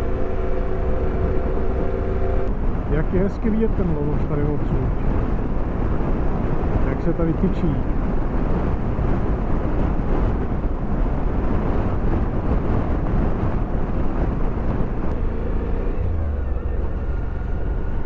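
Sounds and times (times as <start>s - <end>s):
wind over microphone: 0.0s - 18.0s.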